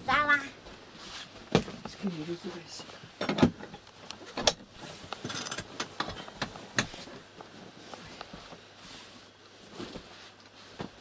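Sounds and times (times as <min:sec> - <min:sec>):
quiet rustling: 0:00.6 - 0:11.0.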